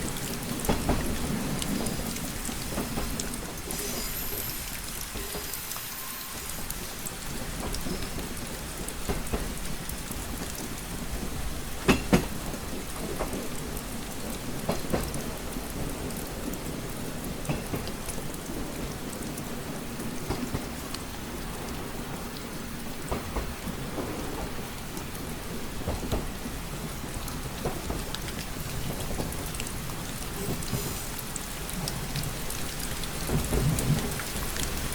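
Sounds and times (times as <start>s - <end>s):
low train rumble: 0.0s - 34.9s
rain pattering on window: 0.0s - 34.9s.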